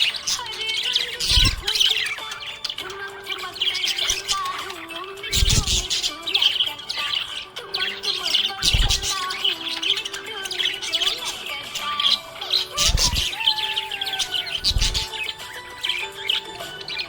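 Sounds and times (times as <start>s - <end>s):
budgerigar chirping and warbling: 0.0s - 17.0s.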